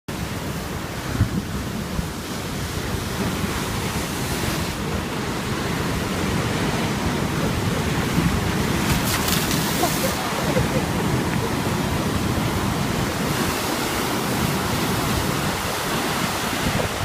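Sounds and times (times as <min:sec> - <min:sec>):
sea waves washing onto shore: 0:00.1 - 0:17.0
wind rumbling on microphone: 0:00.2 - 0:17.0.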